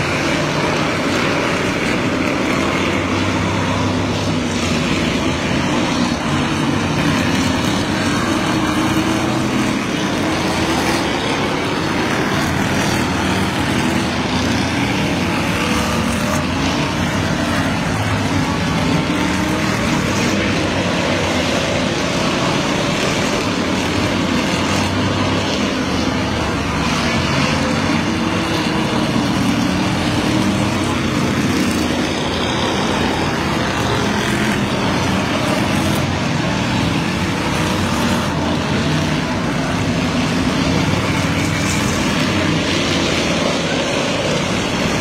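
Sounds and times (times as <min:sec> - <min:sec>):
racing car engines passing: 0:00.0 - 0:45.0.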